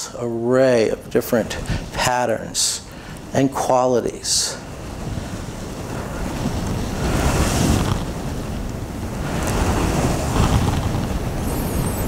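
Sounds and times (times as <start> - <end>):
ocean surf rushing: 1.1 - 12.0.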